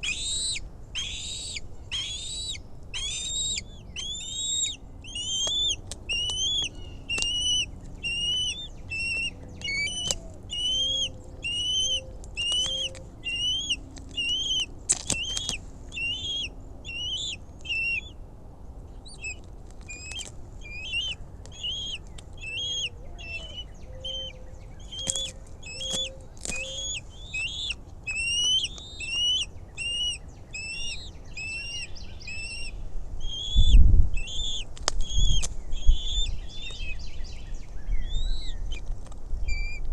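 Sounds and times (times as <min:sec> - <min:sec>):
eagle chirping: 0:00.0 - 0:18.2, 0:18.9 - 0:39.9.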